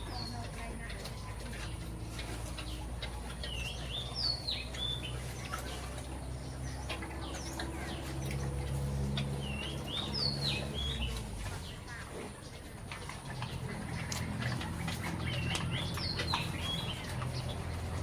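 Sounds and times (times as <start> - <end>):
small bird singing: 2.6 - 12.7, 13.3 - 17.9.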